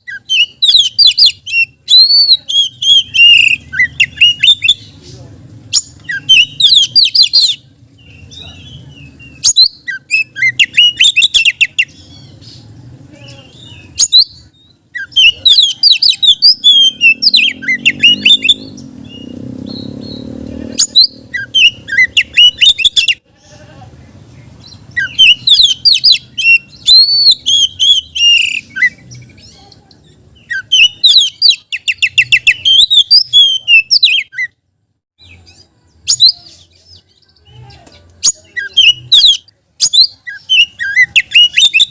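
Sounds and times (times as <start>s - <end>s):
bird singing chirps and trills: 0.0s - 34.6s, 35.2s - 41.9s.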